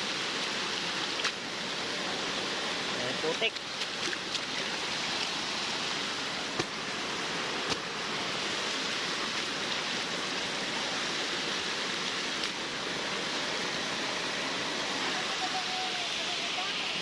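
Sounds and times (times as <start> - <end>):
mountain stream flowing: 0.0 - 17.0.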